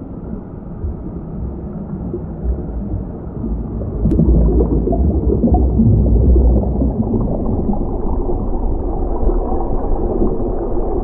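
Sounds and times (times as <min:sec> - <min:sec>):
underwater low rumble: 0:00.0 - 0:11.0.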